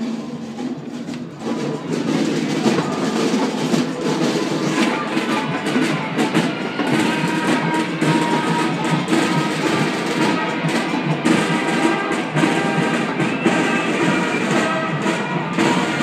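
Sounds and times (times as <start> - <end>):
drums keeping a steady beat: 0.0 - 16.0.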